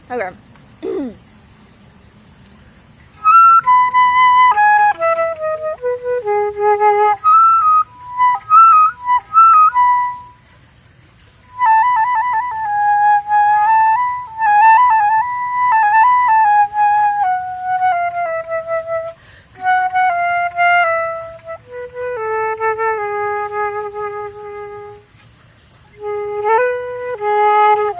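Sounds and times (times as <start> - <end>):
solo flute melody: 3.1 - 10.6, 11.2 - 27.9.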